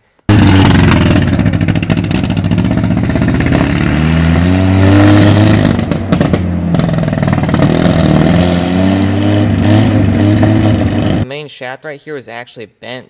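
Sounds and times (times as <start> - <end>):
jeep engine accelerating: 0.3 - 11.2.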